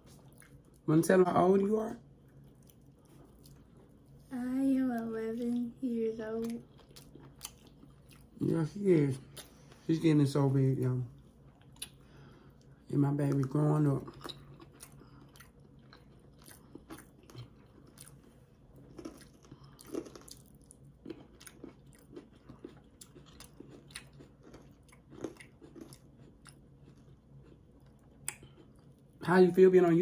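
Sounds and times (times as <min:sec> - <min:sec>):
people chewing food: 0:00.0 - 0:30.0.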